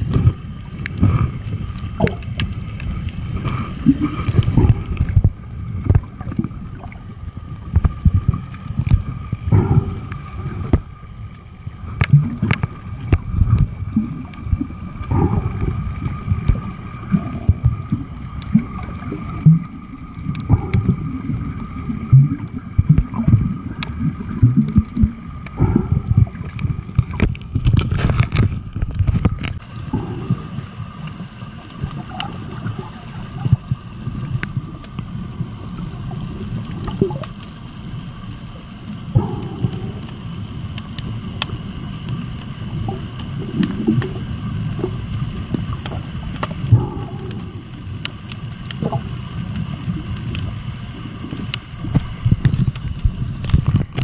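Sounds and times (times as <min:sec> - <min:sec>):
muffled underwater rumble: 0:00.0 - 0:54.0
sharp crackles: 0:00.0 - 0:54.0.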